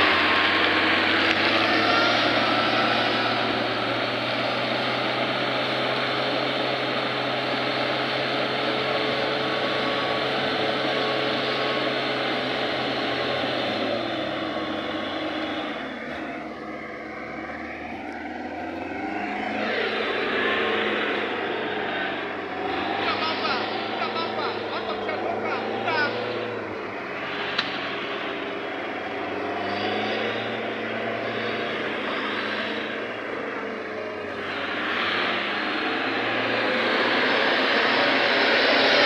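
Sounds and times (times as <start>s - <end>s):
engines revving hard: 0.0s - 39.0s
vehicles sliding through mud: 0.0s - 39.0s.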